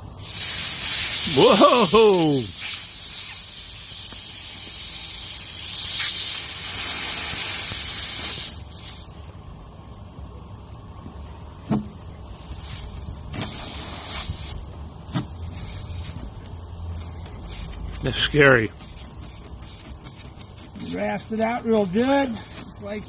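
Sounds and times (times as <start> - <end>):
air hissing out of tire: 0.0 - 9.2, 12.0 - 23.0.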